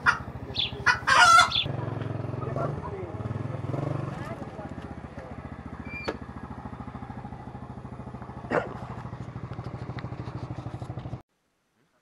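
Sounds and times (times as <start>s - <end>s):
small motorcycle engine idling: 0.0s - 11.2s.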